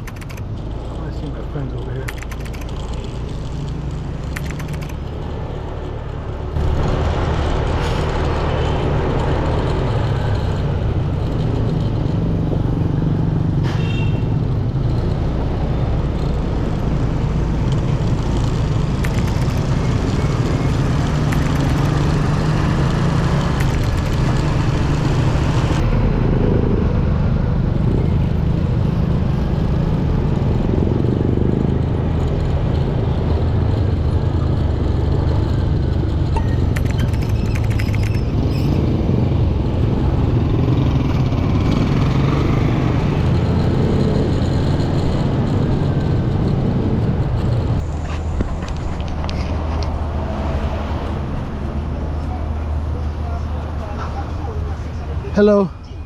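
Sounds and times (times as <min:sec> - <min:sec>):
road traffic engine rumble: 0:00.0 - 0:56.0.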